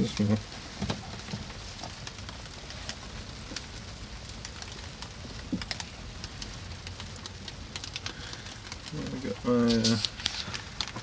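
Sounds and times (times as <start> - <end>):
rain and sleet on cabin roof: 0.0 - 11.0.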